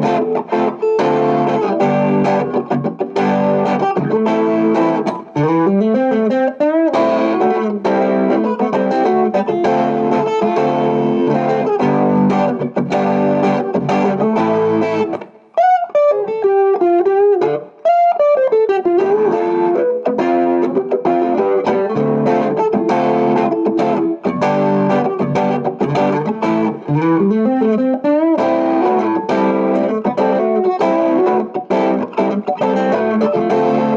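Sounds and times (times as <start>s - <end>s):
distorted electric guitar chords: 0.0s - 33.9s
guitar phrase with bent notes: 0.0s - 33.9s.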